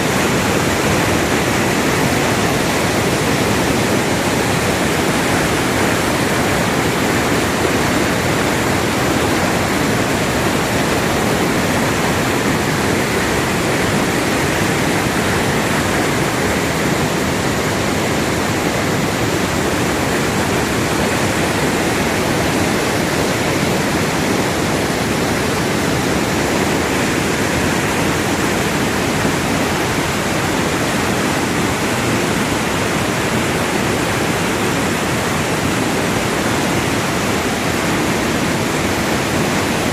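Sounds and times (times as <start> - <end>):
waterfall in heavy flood: 0.0 - 39.9.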